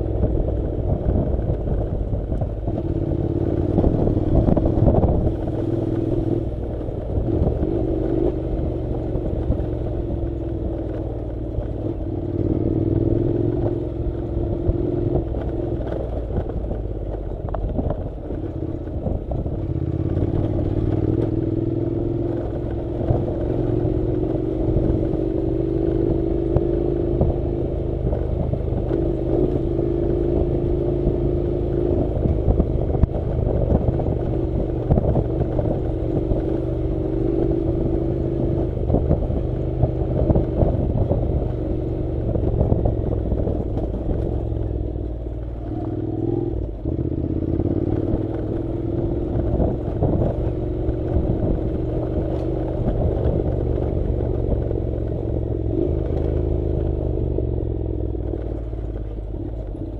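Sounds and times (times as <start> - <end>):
motorcycle engine running: 0.0 - 59.9
motorcycle rattling: 0.0 - 59.9.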